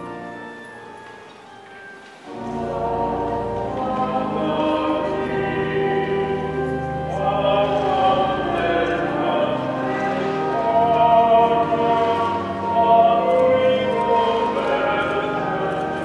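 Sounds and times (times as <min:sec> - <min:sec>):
pipe organ music: 0:00.0 - 0:16.0
voices singing: 0:02.3 - 0:16.0.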